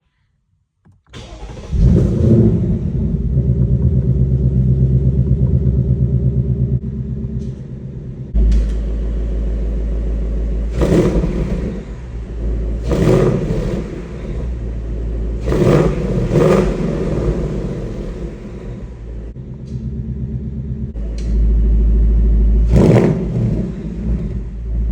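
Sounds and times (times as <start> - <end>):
car engine idling: 1.1 - 24.9
engine throttle blips: 1.1 - 24.9.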